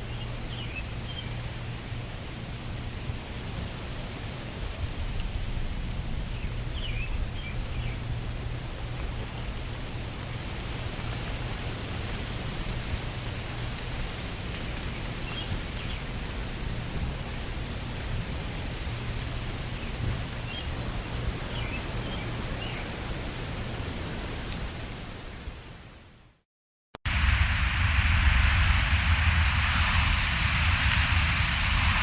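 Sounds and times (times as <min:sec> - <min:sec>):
wind through trees: 0:00.0 - 0:26.4, 0:27.1 - 0:32.0.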